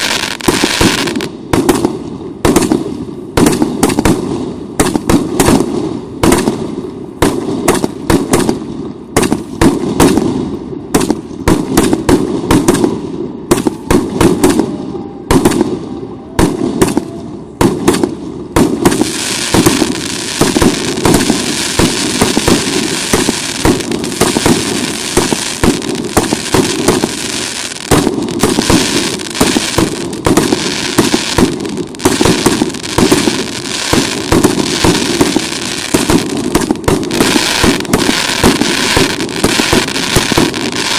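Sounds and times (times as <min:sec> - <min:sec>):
fireworks shots bursting: 0:00.0 - 0:15.8, 0:16.4 - 0:40.9
fireworks crackling: 0:00.0 - 0:40.9.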